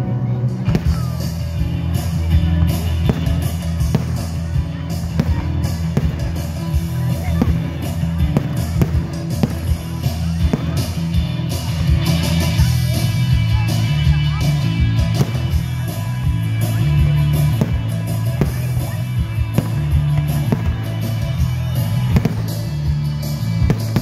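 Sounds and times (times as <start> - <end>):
live rock band playing: 0.0 - 24.0
fireworks banging: 0.6 - 13.0, 14.9 - 24.0.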